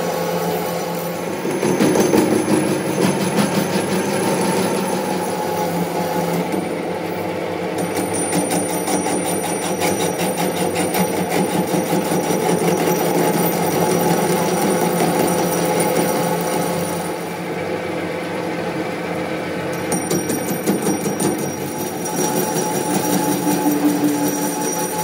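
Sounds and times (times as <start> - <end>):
factory machinery clattering: 0.0 - 17.6, 19.7 - 25.0.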